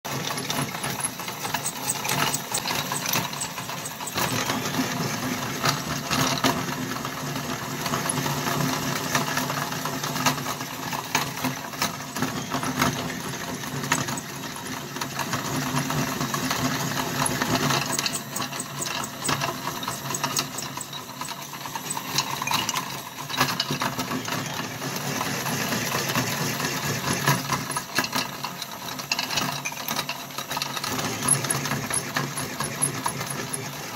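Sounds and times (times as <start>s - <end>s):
meat grinder motor humming: 0.1s - 33.9s.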